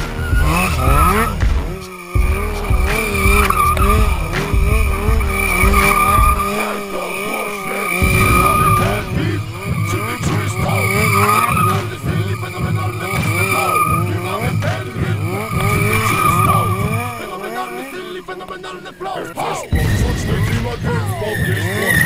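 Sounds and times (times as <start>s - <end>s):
tyre squealing on concrete: 0.0s - 9.0s, 9.6s - 19.7s
motorcycle engine high revs: 0.0s - 18.5s, 19.2s - 22.0s.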